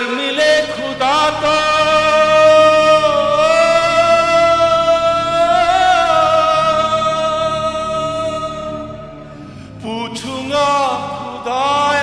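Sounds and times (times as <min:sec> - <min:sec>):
karaoke backing track: 0:00.0 - 0:12.0
person singing a long note: 0:00.0 - 0:12.0.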